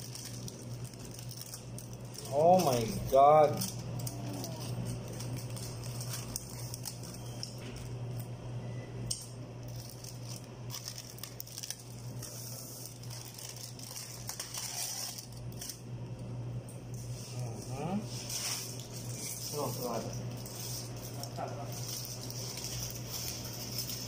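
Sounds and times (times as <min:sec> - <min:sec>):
aluminium foil crinkling: 0:00.0 - 0:08.4, 0:09.1 - 0:16.2, 0:18.1 - 0:24.0
steady low hum: 0:00.0 - 0:24.0.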